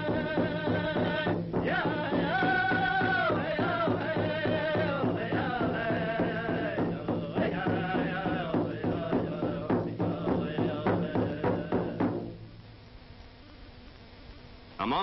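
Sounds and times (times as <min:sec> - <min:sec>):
voices chanting: 0:00.0 - 0:12.3
steady drum beat: 0:00.0 - 0:12.6.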